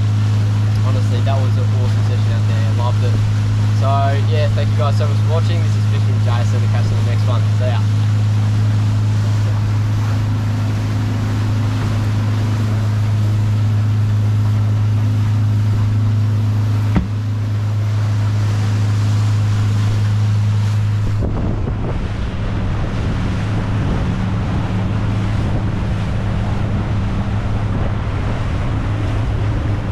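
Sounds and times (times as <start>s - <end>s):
boat engine running: 0.0s - 29.9s
water rushing past hull: 0.0s - 29.9s
water splashing: 0.0s - 29.9s
wind buffeting microphone: 0.0s - 29.9s.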